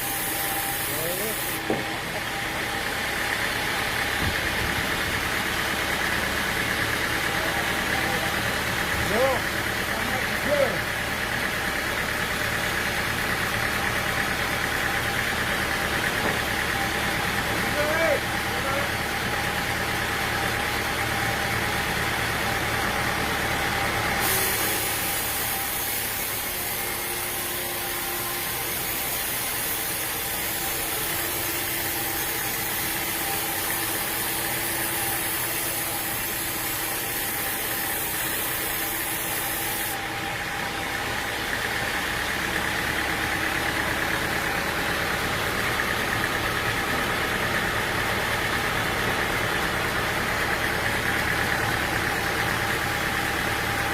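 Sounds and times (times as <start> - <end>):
engine rumbling: 0.0 - 53.9.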